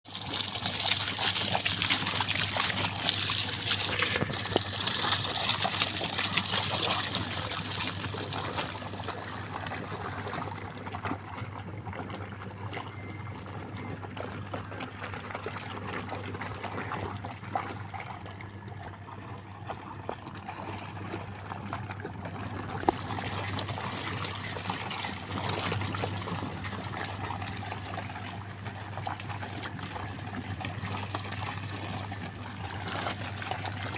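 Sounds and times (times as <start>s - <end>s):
washing machine hum: 0.0s - 33.9s
water sloshing in washing machine: 0.0s - 33.9s.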